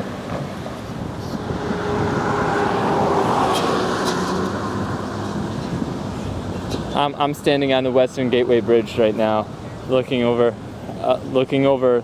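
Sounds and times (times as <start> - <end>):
car passing: 0.0 - 11.1.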